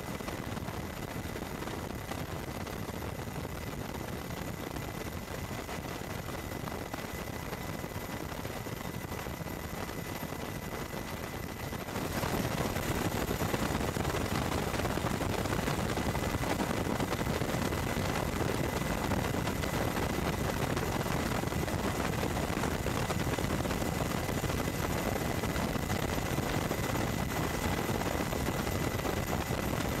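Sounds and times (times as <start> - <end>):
high turbine whine: 0.0 - 30.0.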